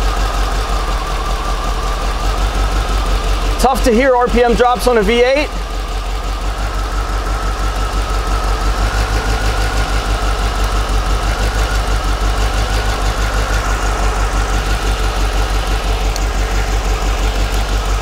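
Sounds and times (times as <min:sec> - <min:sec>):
car engine idling: 0:00.0 - 0:18.0
faint steady whine: 0:00.0 - 0:18.0.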